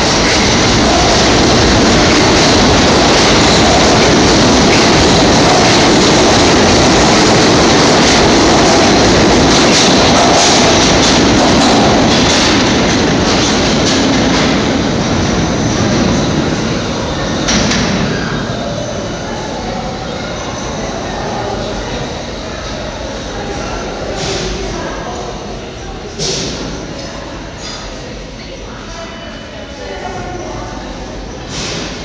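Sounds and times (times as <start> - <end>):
subway train running on rails: 0.0 - 32.0.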